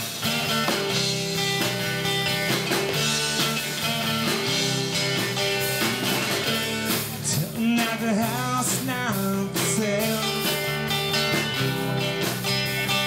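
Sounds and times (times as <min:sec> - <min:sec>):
bass: 0:00.0 - 0:13.0
drum kit: 0:00.0 - 0:13.0
electric guitar: 0:00.0 - 0:13.0.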